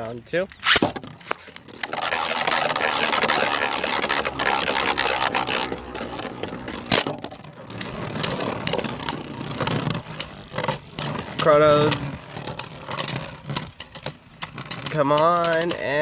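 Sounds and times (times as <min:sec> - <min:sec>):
spinning tops whirring and scraping: 0:00.6 - 0:16.0.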